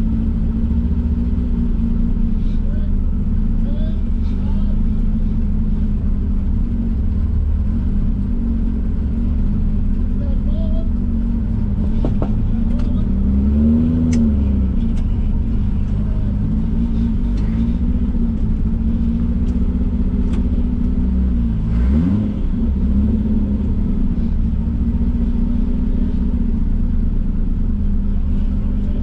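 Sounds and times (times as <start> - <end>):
race car engine running: 0.0 - 29.0.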